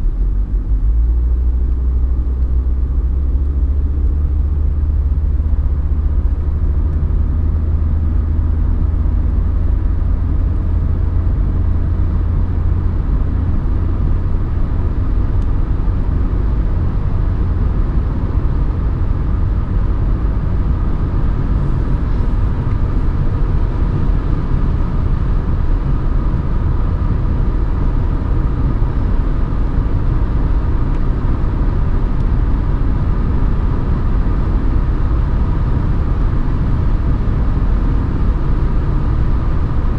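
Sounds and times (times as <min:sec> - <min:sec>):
diesel engine droning: 0:00.0 - 0:39.9
road noise: 0:00.0 - 0:39.9.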